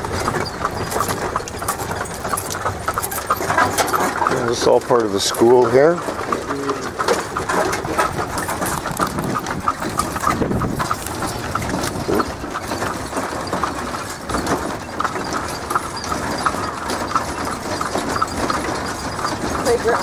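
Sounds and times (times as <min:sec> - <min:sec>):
buggy rattling: 0:00.0 - 0:20.0
horse hooves clip-clopping: 0:00.0 - 0:20.0.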